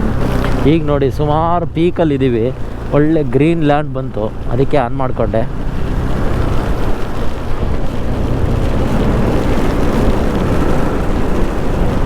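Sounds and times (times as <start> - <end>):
motorcycle engine and tyres: 0.0 - 12.0
wind rush over microphone: 0.0 - 12.0.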